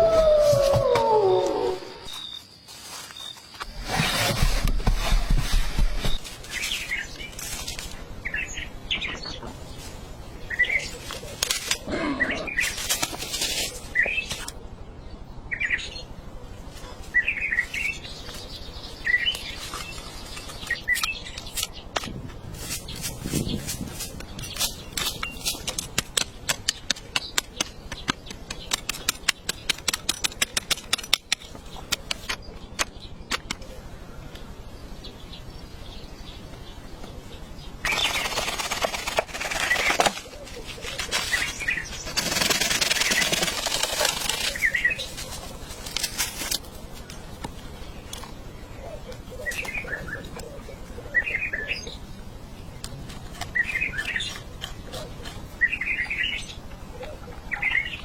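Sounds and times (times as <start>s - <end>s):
birds chirping: 0.0s - 3.8s, 5.8s - 12.9s, 13.7s - 58.0s.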